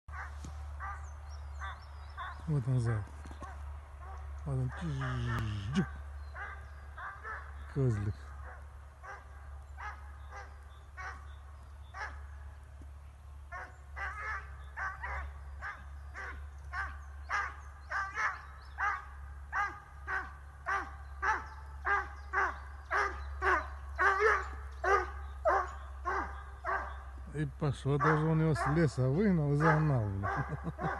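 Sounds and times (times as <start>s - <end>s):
hound baying: 0.1s - 11.3s, 13.5s - 30.9s.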